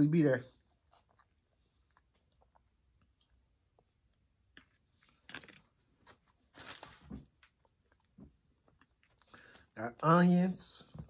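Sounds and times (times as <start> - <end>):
person chewing food: 0.6 - 9.8.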